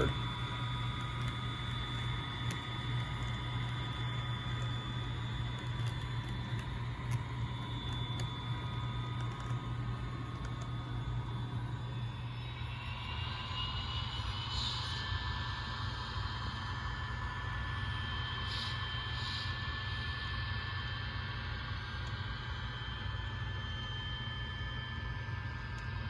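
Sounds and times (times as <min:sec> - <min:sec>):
model locomotive engine drone: 0:00.0 - 0:26.0.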